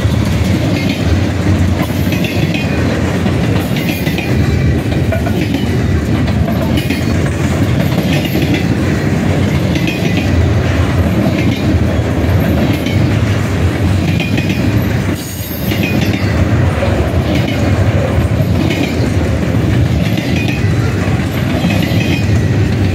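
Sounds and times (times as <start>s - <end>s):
train wheels rumbling on rail: 0.0s - 22.9s
wheels clicking over rail joints: 0.0s - 22.9s.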